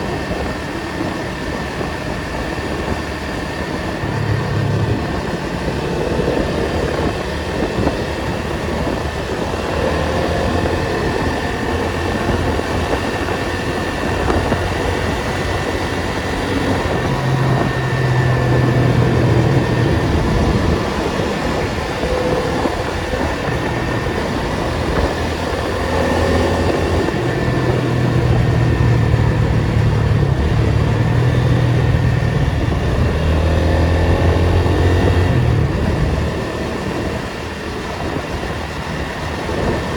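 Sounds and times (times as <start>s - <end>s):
car engine at low revs: 0.0s - 39.9s
road and tyre noise: 0.0s - 39.9s.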